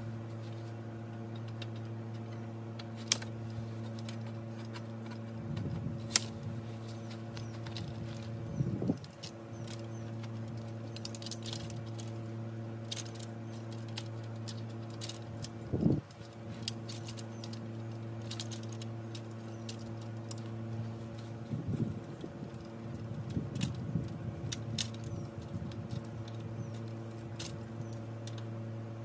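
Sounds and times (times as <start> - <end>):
steady low hum: 0.0 - 29.0
metal parts clinking: 1.3 - 28.5.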